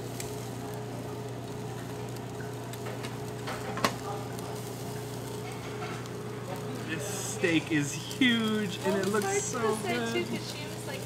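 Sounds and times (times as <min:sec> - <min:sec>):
meat sizzling on grill: 0:00.0 - 0:11.0
steady low hum: 0:00.0 - 0:11.0.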